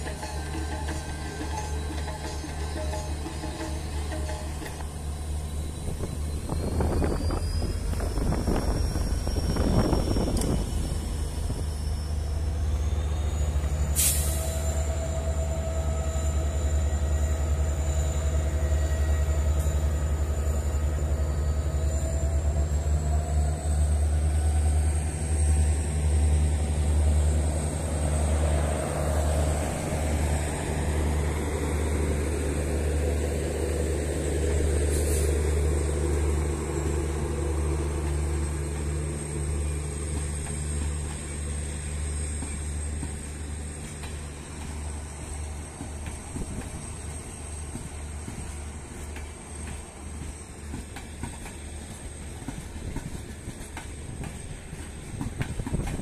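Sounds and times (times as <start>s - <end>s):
diesel locomotive engine rumble: 0.0s - 56.0s
train coaches rolling by: 0.0s - 56.0s.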